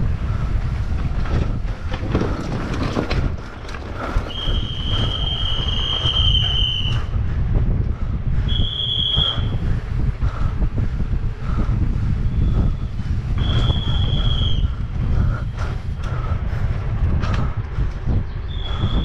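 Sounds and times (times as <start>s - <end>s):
bike rattling on rough ground: 0.0s - 19.0s
wind buffeting microphone: 0.0s - 19.0s.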